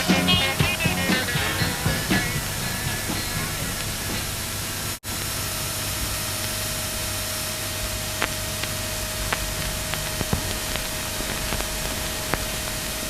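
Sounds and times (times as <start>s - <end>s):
faint steady hum: 0.0s - 13.0s
steady hiss: 0.0s - 13.0s.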